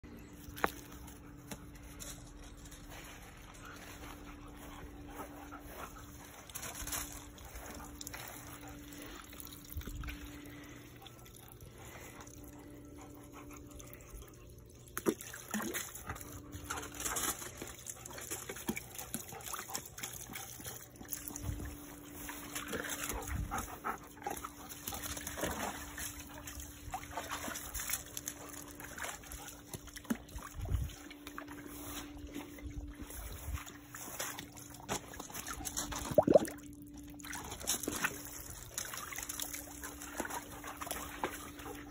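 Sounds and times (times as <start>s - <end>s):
water trickling and sloshing: 0.1s - 41.9s
dogs splashing in a pool: 0.2s - 41.9s.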